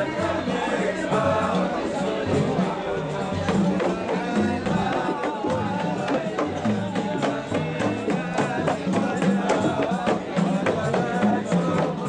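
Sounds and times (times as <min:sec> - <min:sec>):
steady drum beat: 0:00.0 - 0:12.0
voices singing: 0:00.0 - 0:12.0.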